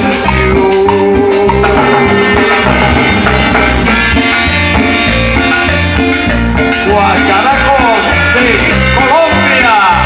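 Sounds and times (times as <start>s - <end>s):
held keyboard note: 0.0s - 9.7s
bass: 0.0s - 10.0s
rattling percussion beat: 0.0s - 10.0s.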